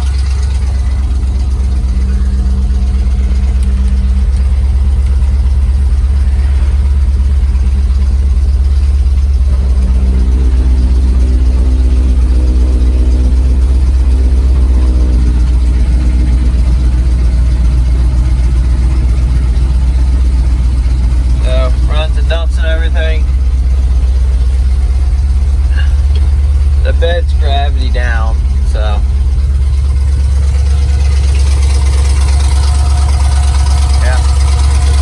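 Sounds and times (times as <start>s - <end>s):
steady whine: 0.0s - 35.0s
truck engine idling: 0.0s - 35.0s.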